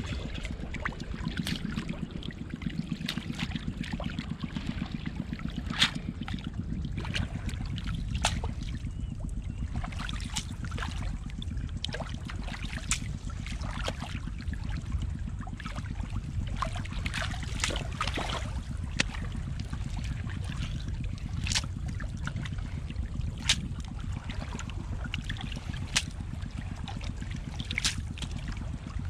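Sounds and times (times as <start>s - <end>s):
hands sloshing through mud and water: 0.0s - 29.0s
steady low rumble: 0.0s - 29.0s.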